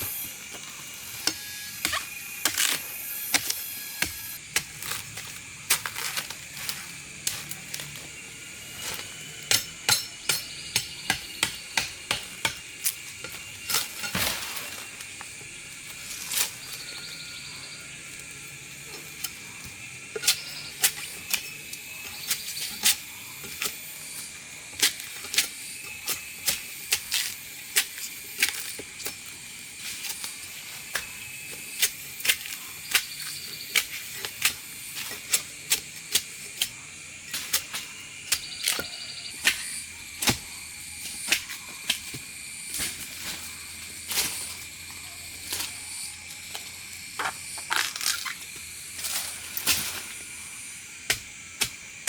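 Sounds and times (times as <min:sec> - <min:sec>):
faint insect-like drone: 0:00.0 - 0:52.0.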